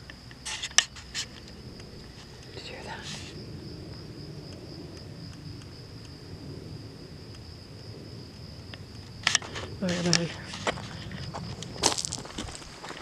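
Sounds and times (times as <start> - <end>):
low background rumble: 0.0 - 12.7
crickets chirping: 0.0 - 13.0.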